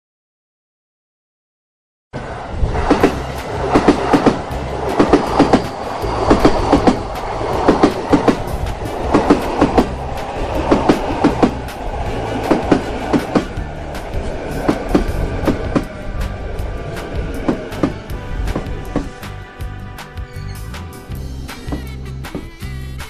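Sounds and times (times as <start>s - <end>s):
train cars rumbling: 2.2s - 23.0s
wheels clacking on rail joints: 2.7s - 22.9s.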